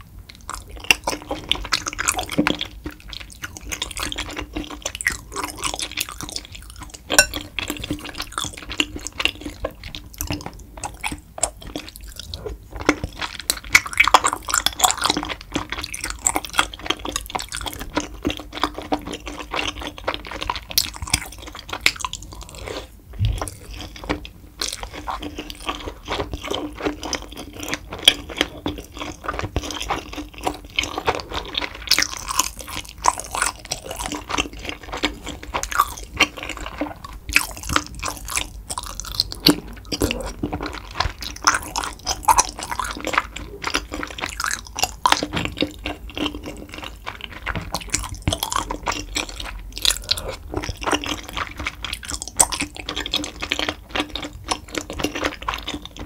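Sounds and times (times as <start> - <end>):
wet chewing mouth sounds: 0.3 - 56.0.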